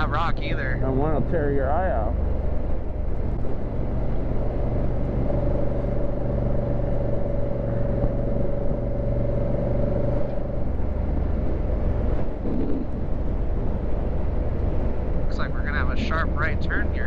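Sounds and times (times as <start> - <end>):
motorcycle engine running: 0.0 - 17.0
steady engine whine: 0.0 - 17.0.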